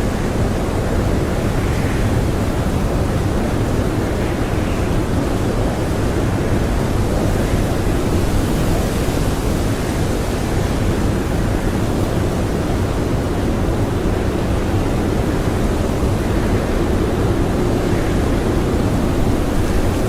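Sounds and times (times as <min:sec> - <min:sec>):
strong blizzard wind: 0:00.0 - 0:20.0.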